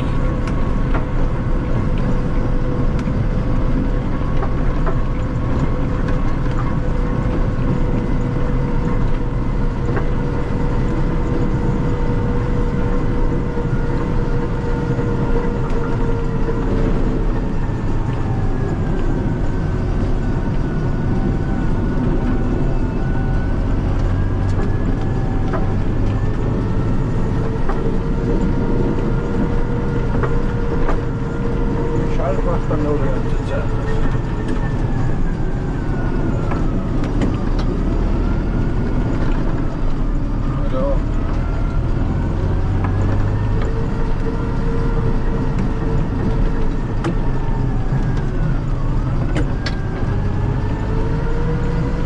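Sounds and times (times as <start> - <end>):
engine whine: 0.0 - 52.0
tractor diesel engine running: 0.0 - 52.0.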